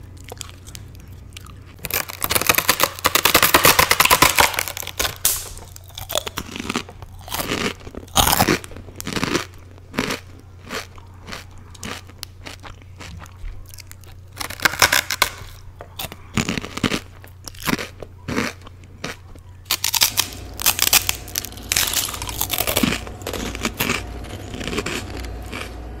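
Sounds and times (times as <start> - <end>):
crisp pork skin crunching: 0.0 - 25.8.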